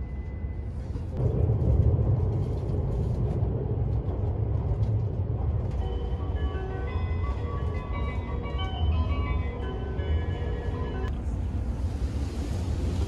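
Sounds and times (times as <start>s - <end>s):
train cabin rumble and hiss: 0.7s - 13.0s.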